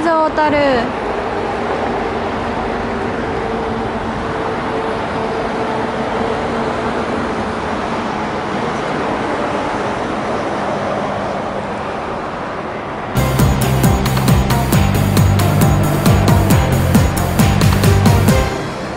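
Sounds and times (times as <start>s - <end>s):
road traffic noise: 0.0s - 18.9s.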